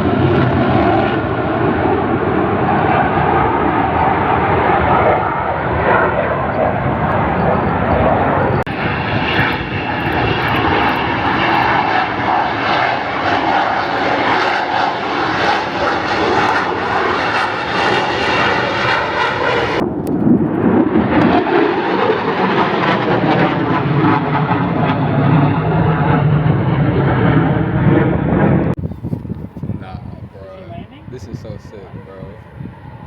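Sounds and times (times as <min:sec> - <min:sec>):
jet engines flying overhead: 0:00.0 - 0:33.0.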